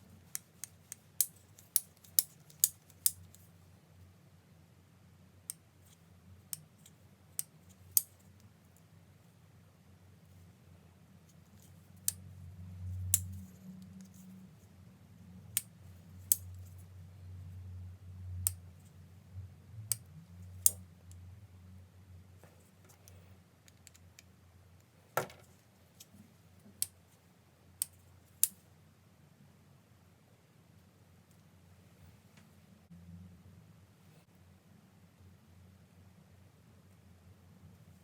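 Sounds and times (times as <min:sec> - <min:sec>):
faint low hum: 0:00.0 - 0:38.0.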